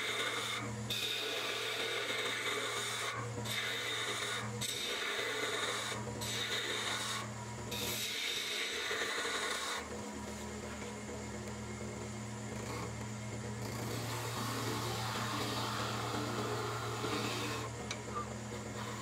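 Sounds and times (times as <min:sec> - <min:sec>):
turning tool scraping wood: 0:00.0 - 0:11.5, 0:13.6 - 0:19.0
wood lathe humming: 0:00.0 - 0:19.0.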